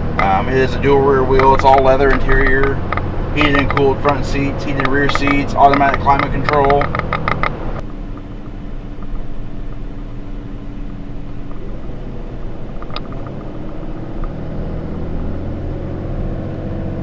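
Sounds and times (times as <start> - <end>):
diesel engine drone: 0.0 - 17.0
road noise rumble: 0.0 - 17.0.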